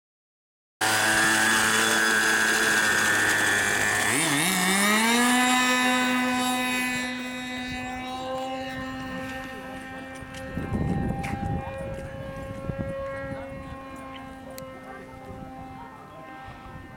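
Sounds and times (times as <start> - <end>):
model airplane engine: 0.8 - 16.9.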